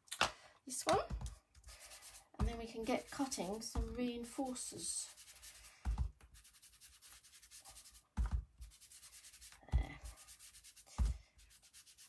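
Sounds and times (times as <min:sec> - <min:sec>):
foam tool rubbing on cardstock: 0:01.7 - 0:12.0.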